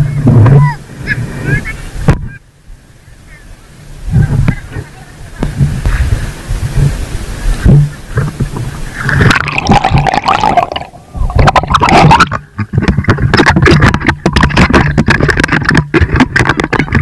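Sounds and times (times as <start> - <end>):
seawater splashing: 3.2 - 17.0.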